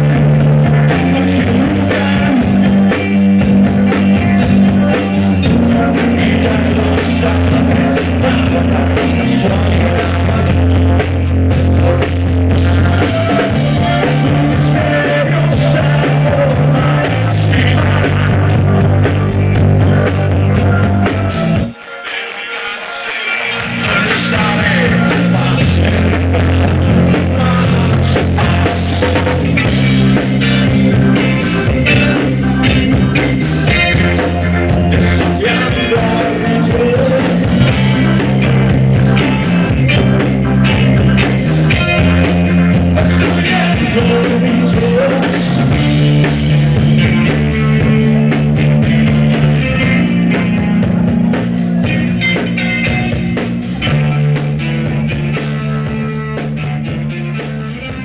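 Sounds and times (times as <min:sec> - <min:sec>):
rock band playing loud: 0:00.0 - 0:58.0.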